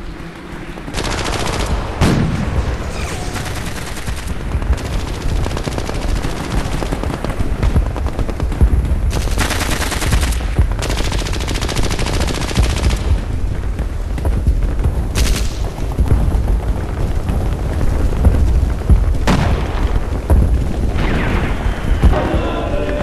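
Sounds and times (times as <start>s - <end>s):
machine-gun and rifle fire: 0.1s - 22.7s.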